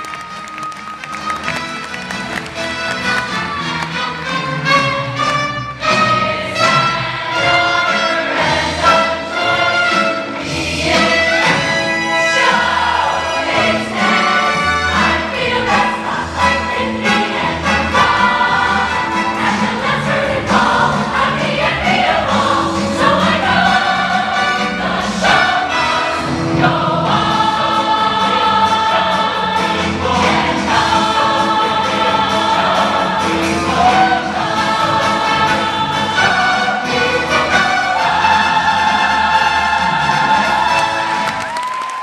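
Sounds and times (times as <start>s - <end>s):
mixed chorus singing: 5.8s - 41.6s.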